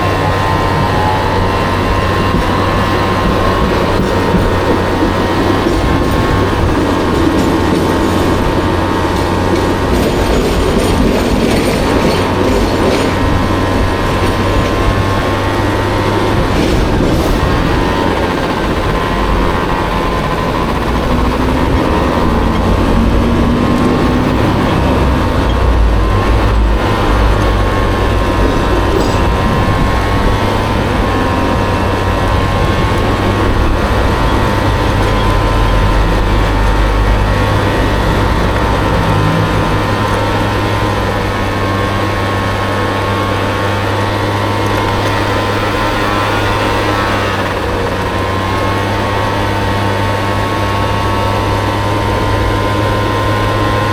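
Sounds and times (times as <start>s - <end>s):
scooter engine running: 0.0s - 53.9s.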